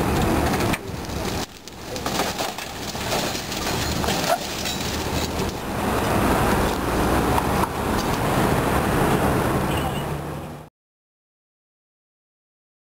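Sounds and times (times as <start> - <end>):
traffic noise: 0.0 - 10.7.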